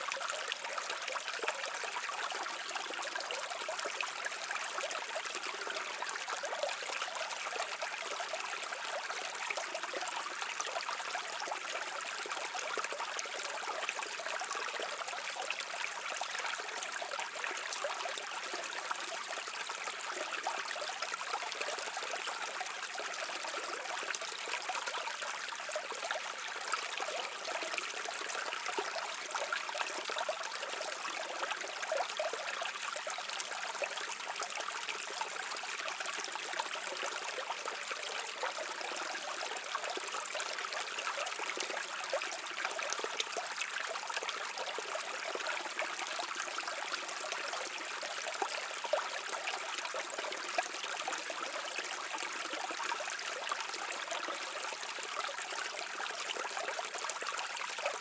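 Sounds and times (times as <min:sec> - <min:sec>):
brook running over rocks: 0:00.0 - 0:58.0.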